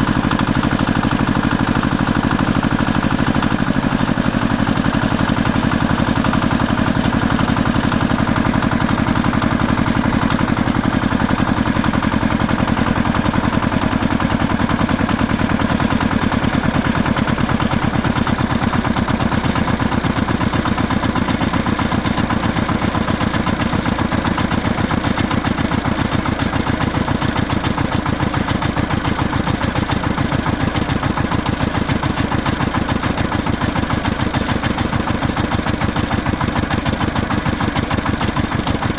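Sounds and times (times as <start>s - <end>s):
engine idling with chugging pulse: 0.0s - 38.9s.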